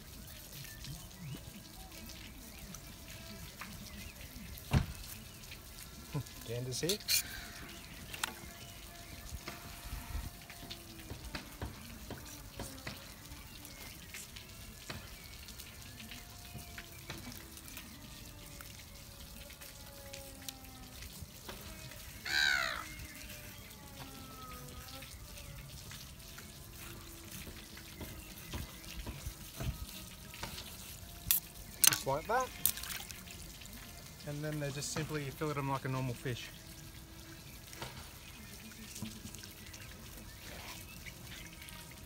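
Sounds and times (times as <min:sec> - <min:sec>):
water running and trickling: 0:00.0 - 0:42.0.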